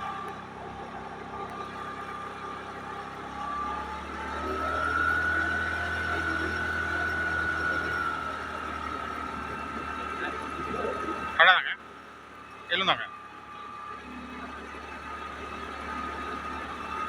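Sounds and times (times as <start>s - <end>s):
vehicle engine whine: 0.0s - 17.0s.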